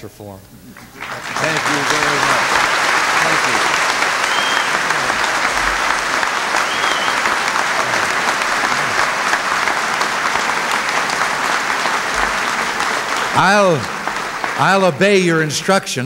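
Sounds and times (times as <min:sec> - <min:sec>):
crowd applause: 0:00.7 - 0:16.0.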